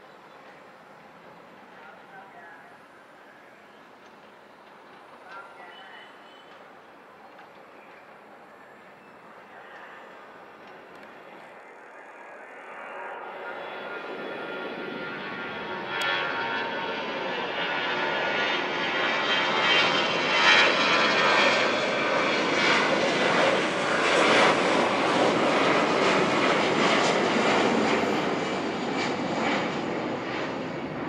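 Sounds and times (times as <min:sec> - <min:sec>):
jet airliner passing: 0:00.1 - 0:31.0.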